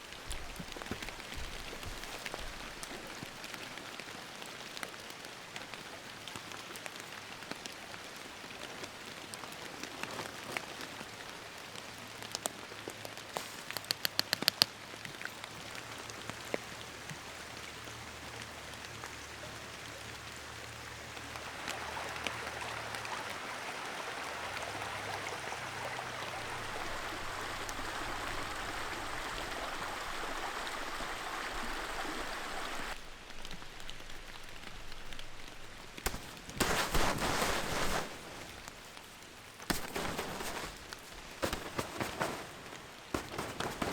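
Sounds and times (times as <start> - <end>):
rain drops hitting a surface: 0.0 - 43.9.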